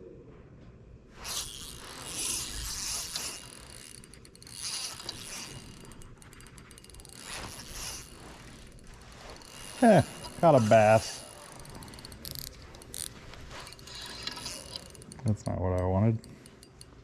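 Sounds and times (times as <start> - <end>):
fishing reel ratcheting: 1.2 - 17.0.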